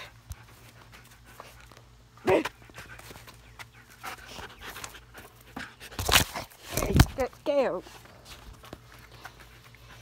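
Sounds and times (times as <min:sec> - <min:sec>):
dog panting: 0:00.0 - 0:06.0, 0:07.9 - 0:10.0.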